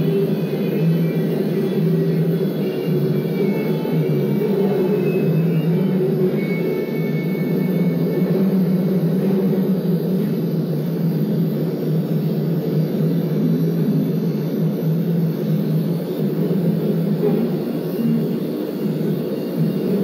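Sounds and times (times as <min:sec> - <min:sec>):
tattoo machine buzzing: 0:00.0 - 0:20.0.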